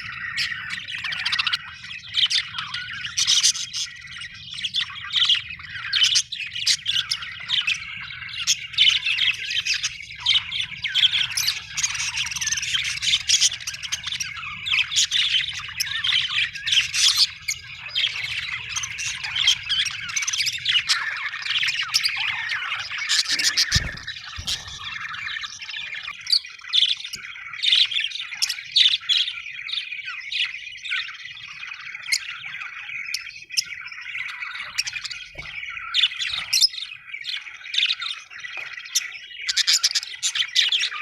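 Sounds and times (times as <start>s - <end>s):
budgerigars chattering: 0.0s - 41.0s.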